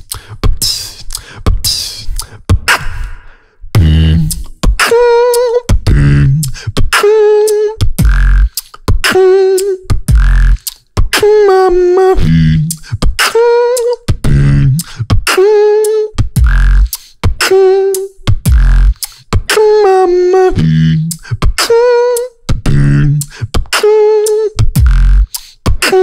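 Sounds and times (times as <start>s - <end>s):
person beatboxing: 0.0s - 26.0s.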